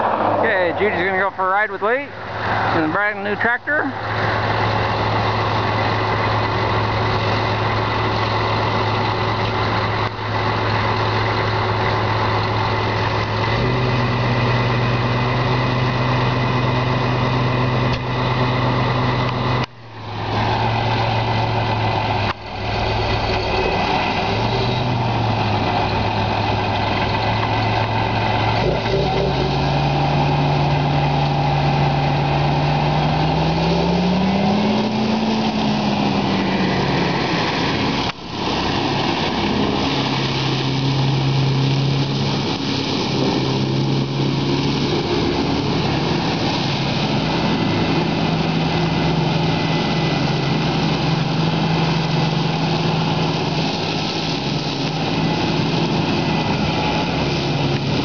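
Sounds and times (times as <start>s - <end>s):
tractor diesel engine idling: 0.0s - 33.2s, 34.1s - 58.0s
tractor engine revving: 0.0s - 58.0s.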